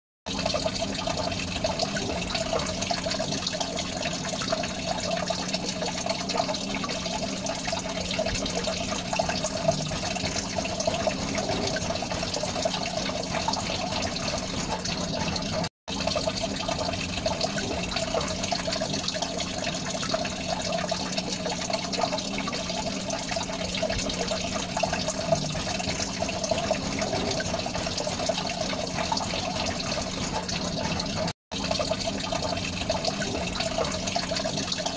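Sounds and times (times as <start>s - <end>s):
water bubbling in aquarium: 0.3s - 34.9s.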